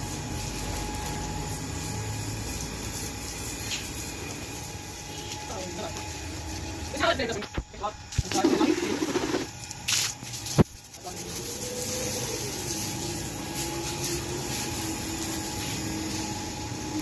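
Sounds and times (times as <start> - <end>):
water spraying hiss: 0.0 - 7.4, 8.1 - 17.0.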